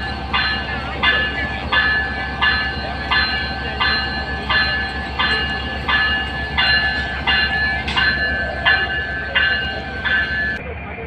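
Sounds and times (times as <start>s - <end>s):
high ringing tone: 0.0s - 10.6s
diesel train rumble: 0.0s - 11.0s.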